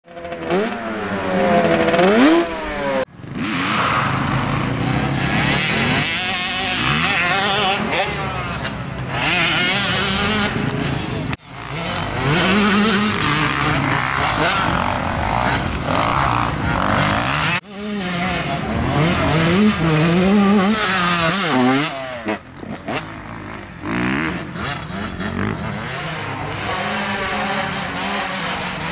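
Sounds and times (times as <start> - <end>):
dirt bike engines revving: 0.1 - 28.9.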